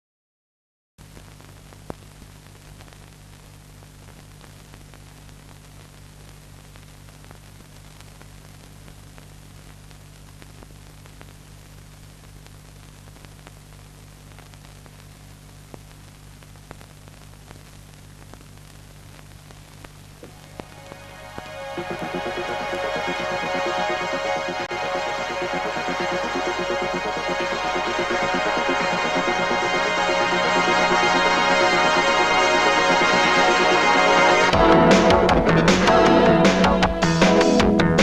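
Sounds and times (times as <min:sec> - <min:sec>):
crackles and clicks: 0:01.0 - 0:36.0
film soundtrack hiss and hum: 0:01.0 - 0:38.0.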